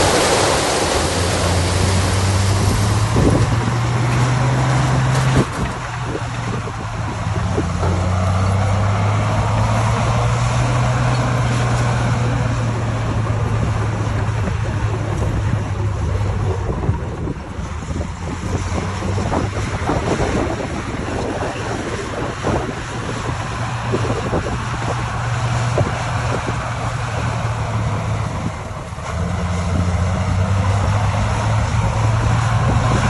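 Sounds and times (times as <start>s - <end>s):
diesel engine humming: 0.0s - 33.0s
rushing noise: 0.0s - 33.0s
wind on microphone: 0.0s - 33.0s.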